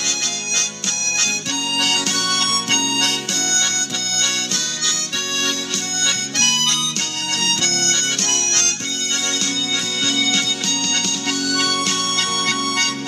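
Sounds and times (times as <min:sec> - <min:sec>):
harmonica melody: 0:00.0 - 0:13.0.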